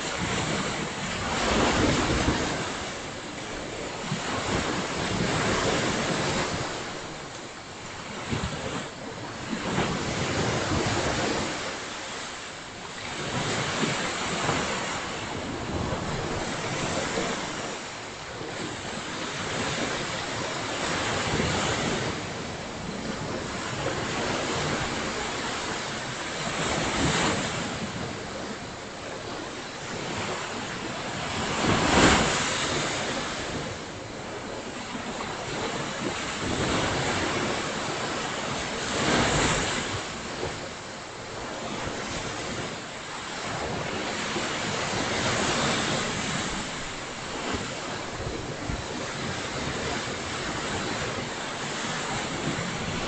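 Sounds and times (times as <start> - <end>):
ocean surf breaking: 0.0 - 53.0
wind rumble on microphone: 0.0 - 53.0.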